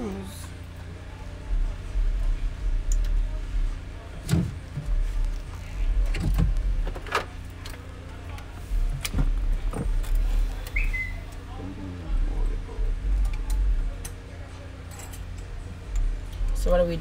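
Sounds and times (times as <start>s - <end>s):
low rumble: 0.0s - 14.1s.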